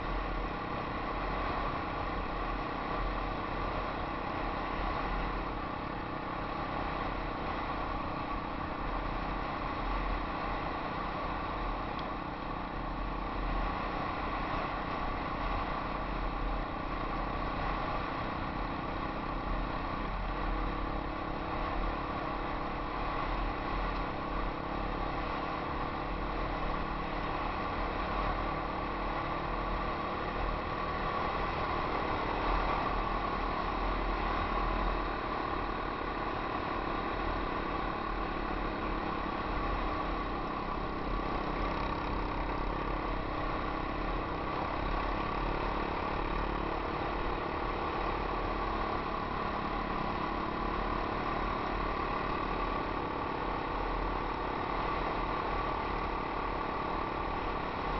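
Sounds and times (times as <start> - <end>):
dirt bike engine running: 0.0 - 57.9.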